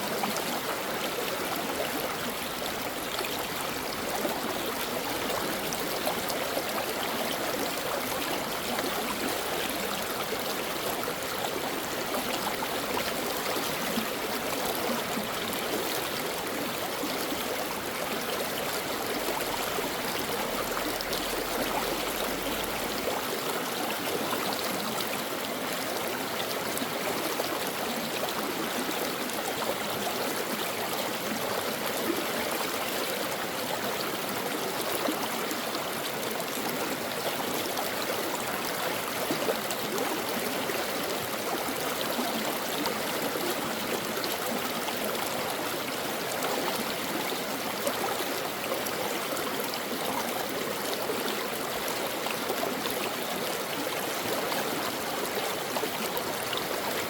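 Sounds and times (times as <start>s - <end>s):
stream burbling over rocks: 0.0s - 57.0s.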